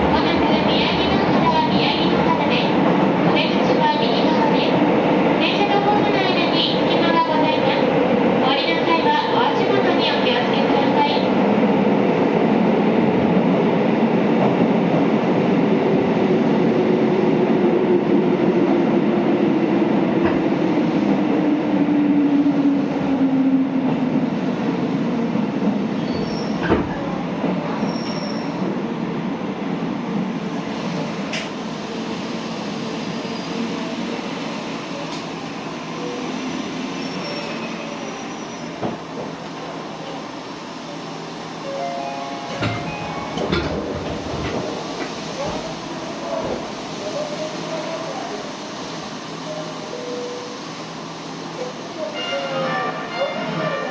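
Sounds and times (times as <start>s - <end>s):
train running in a tunnel: 0.0s - 53.9s.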